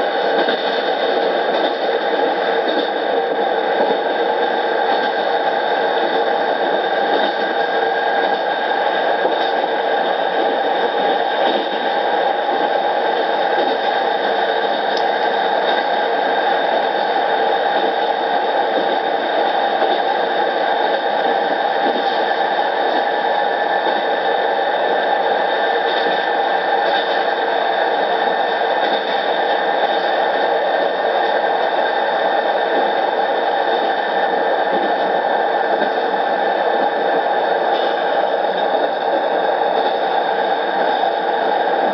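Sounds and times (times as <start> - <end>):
train wheels on rails: 0.0 - 41.9.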